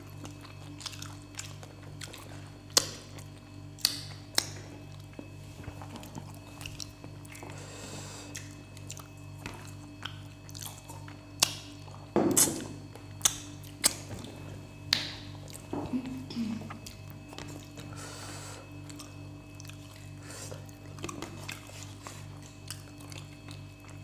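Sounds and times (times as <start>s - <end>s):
chewing: 0.0s - 12.5s, 16.6s - 24.0s.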